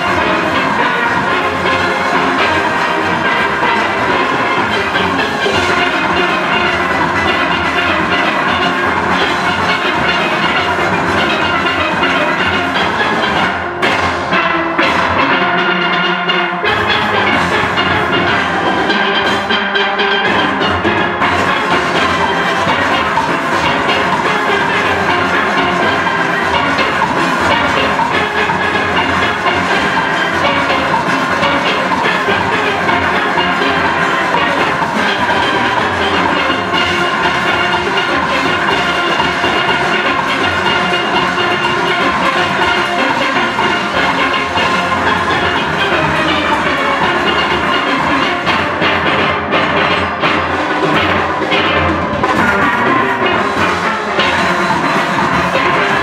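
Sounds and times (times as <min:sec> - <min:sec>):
drums and percussion: 0:00.0 - 0:56.0
steel orchestra playing: 0:00.0 - 0:56.0.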